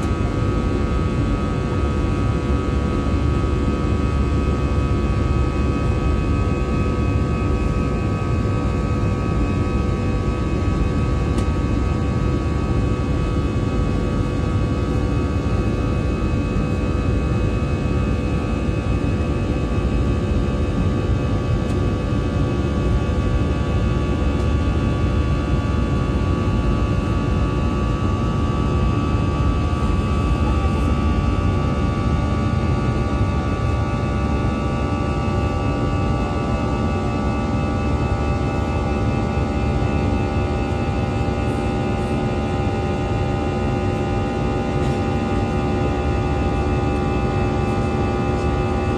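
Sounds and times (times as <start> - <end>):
jet engine rumble in cabin: 0.0 - 48.9.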